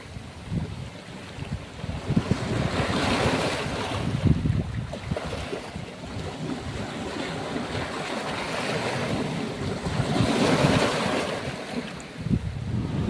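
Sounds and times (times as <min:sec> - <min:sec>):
ocean waves washing in: 0:00.0 - 0:13.0
wind buffeting microphone: 0:00.0 - 0:13.0.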